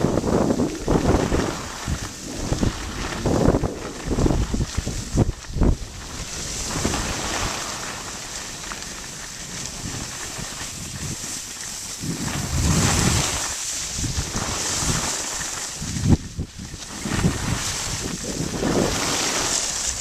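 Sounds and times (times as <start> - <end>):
skis sliding on packed snow: 0.0 - 20.0
wind buffeting microphone: 0.0 - 20.0.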